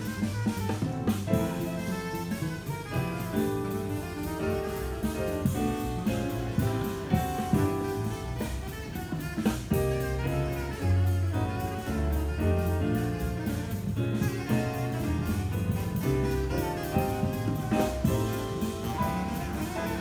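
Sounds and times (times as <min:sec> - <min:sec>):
bass: 0:00.0 - 0:20.0
drum kit cymbals: 0:00.0 - 0:20.0
piano: 0:00.0 - 0:20.0
tenor saxophone: 0:00.0 - 0:20.0.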